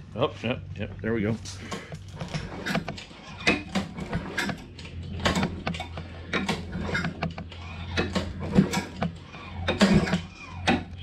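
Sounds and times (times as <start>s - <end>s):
steady low hum: 0.0s - 11.0s
pull-starter cord yanked: 1.7s - 11.0s
recoil mechanism clicking and rattling: 1.7s - 11.0s.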